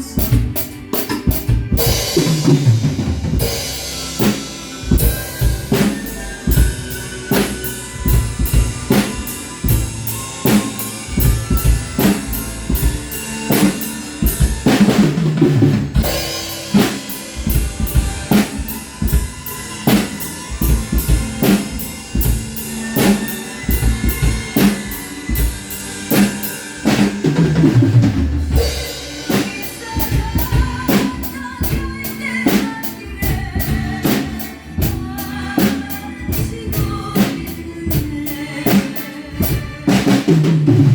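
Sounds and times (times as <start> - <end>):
drum kit playing a steady beat: 0.0 - 40.9
recorded backing song: 0.0 - 40.9.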